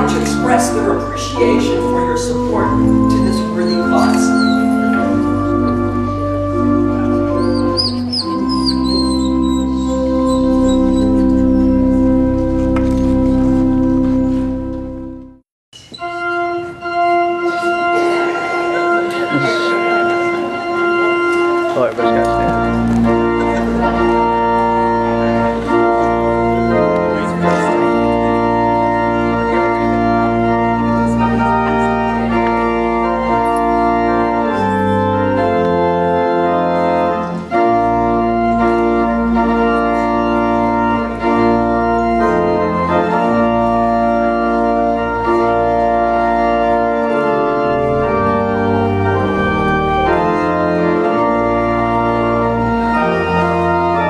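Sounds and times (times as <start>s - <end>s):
organ playing sustained chords: 0.0s - 54.0s.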